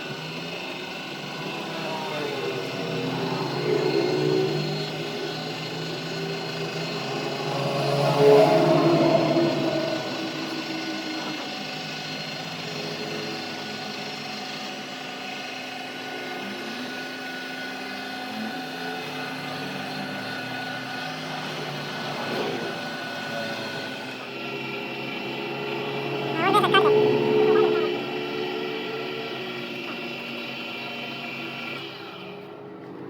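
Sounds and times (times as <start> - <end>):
machine humming with whine: 0.0 - 33.0.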